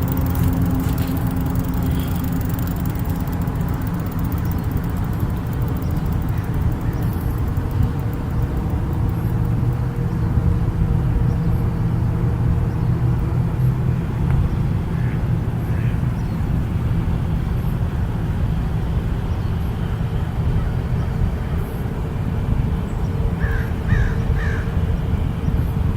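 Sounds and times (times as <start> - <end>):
low rumble of traffic: 0.0 - 25.9.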